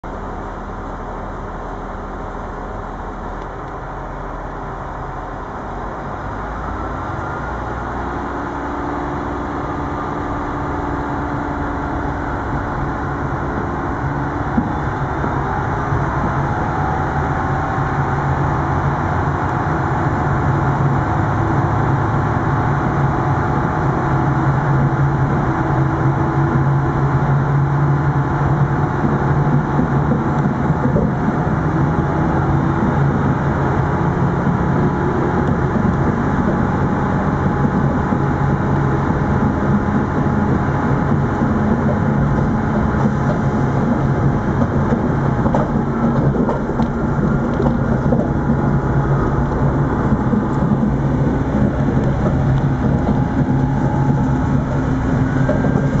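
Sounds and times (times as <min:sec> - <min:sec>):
railcar diesel engine droning: 0:00.0 - 0:56.0.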